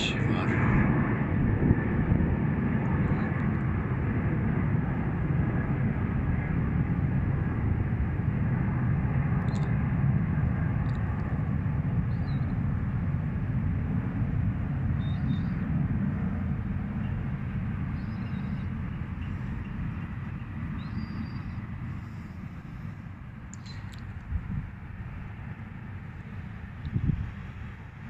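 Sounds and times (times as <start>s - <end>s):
jet airliner flying overhead: 0.0s - 28.0s.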